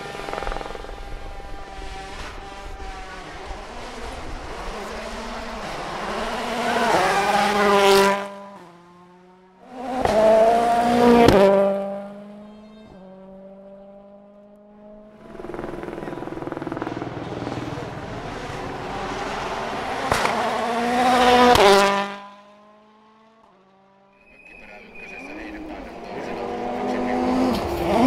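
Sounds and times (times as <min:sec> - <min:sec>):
steady engine tone: 0:00.0 - 0:09.6, 0:10.3 - 0:22.7, 0:24.2 - 0:28.0
rally car engines at full throttle: 0:00.0 - 0:28.0.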